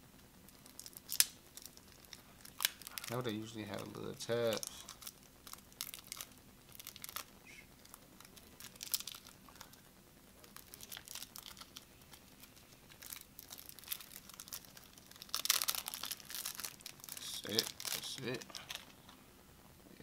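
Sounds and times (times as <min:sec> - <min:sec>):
packaging crinkling and tearing: 0:00.5 - 0:09.8, 0:10.4 - 0:19.2.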